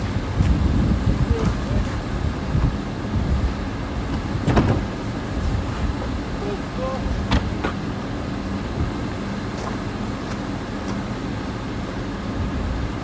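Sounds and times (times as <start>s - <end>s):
roadside vehicle rumble: 0.0s - 13.0s.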